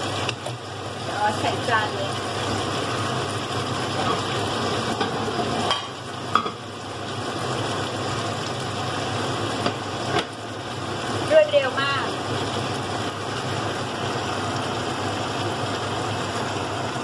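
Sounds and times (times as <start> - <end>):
pork and greens sizzling in a wok: 0.0 - 17.0.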